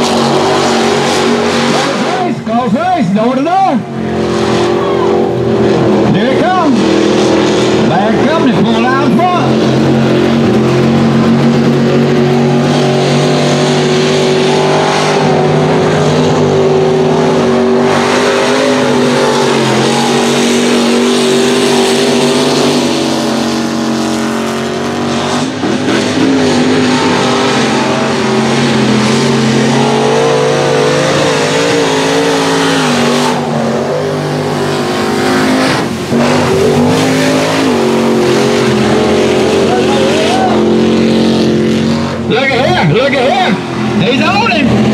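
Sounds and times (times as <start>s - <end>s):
truck engines revving hard: 0.0s - 44.9s.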